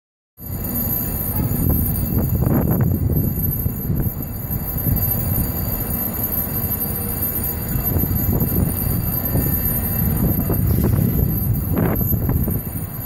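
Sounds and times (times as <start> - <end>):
street traffic noise: 0.4 - 13.0.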